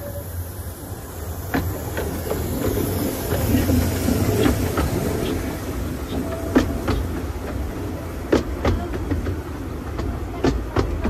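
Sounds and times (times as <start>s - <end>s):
steam train rumbling past: 0.0s - 11.0s
wheels clacking over rail joints: 1.0s - 11.0s.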